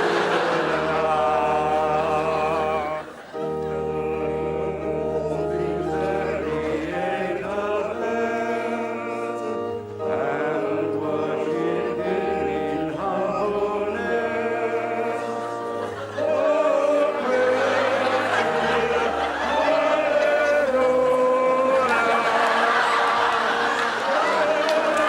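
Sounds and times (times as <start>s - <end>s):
choir singing a hymn: 0.0s - 25.0s
low accompaniment: 0.0s - 25.0s.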